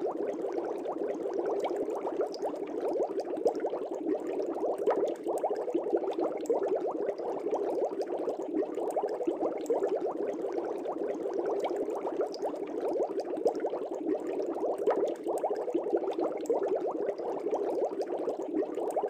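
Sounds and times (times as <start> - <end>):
aquarium air bubbles: 0.0 - 19.0.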